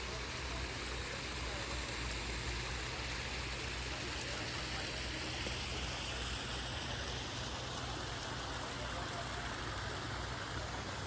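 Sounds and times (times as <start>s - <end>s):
water rushing through channels: 0.0s - 11.0s.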